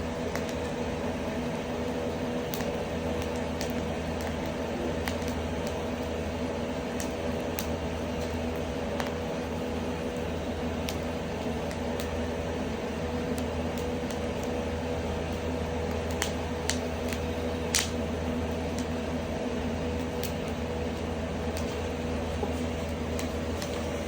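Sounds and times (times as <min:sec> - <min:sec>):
firewood popping: 0:00.0 - 0:24.0
ventilation fan humming: 0:00.0 - 0:24.0.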